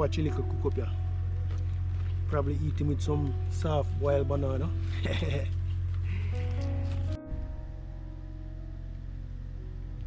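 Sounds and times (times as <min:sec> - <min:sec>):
background music with heavy bass: 0:00.0 - 0:10.0.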